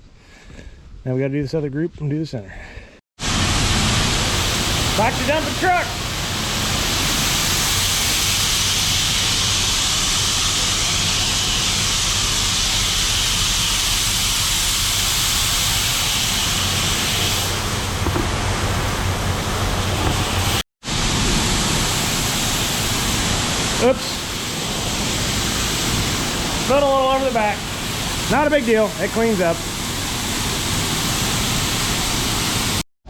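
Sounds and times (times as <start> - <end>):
grain pouring with loud hiss: 3.2 - 18.2, 20.2 - 32.8.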